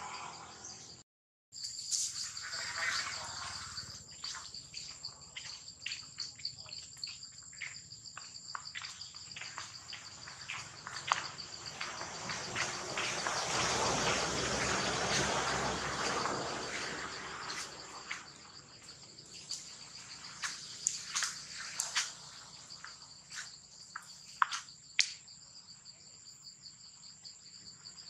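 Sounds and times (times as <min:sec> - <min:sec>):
insects droning trill: 0:00.0 - 0:01.0, 0:01.6 - 0:28.0.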